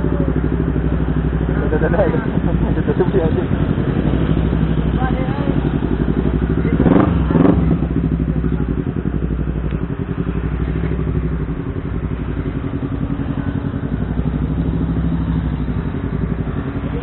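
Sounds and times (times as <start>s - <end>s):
motorcycles idling: 0.0s - 17.0s.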